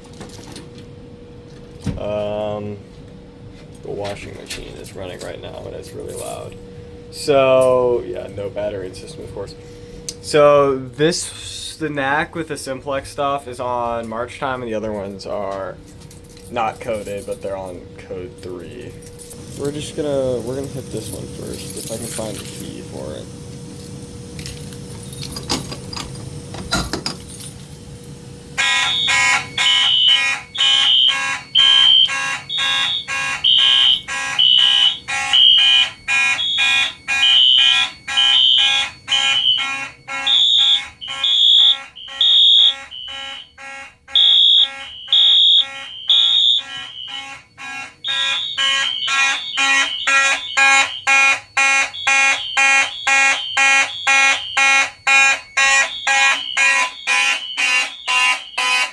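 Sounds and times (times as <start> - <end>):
fire alarm horns pulsing: 3.8 - 58.9.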